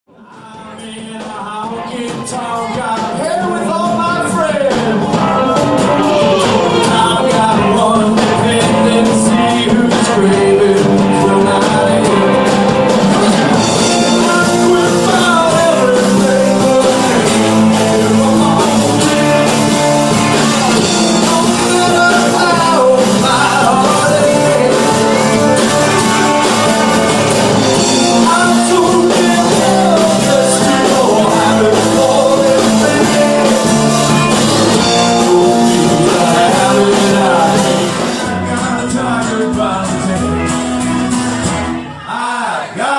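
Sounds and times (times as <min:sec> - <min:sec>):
lead vocal singing: 0:00.1 - 0:40.8, 0:41.8 - 0:42.9
live country band: 0:00.1 - 0:42.9.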